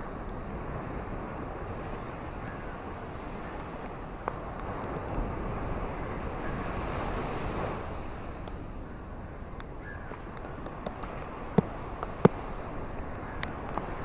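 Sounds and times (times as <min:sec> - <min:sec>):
rushing wind or surf: 0:00.0 - 0:14.0.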